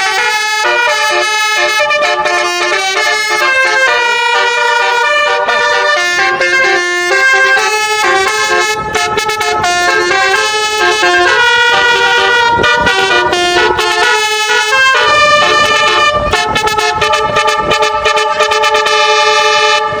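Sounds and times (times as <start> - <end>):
multi-tone musical vehicle horn: 0.0 - 20.0.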